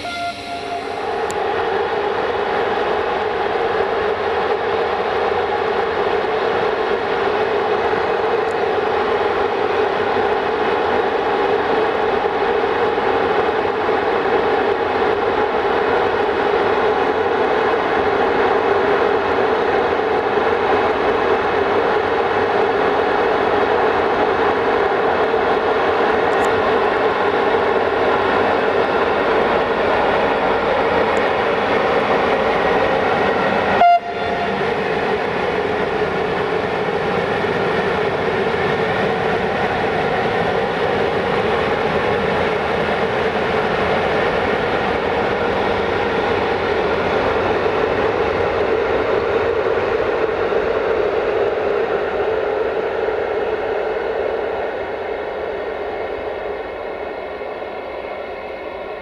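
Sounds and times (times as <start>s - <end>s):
electric locomotive droning: 0.0s - 59.0s.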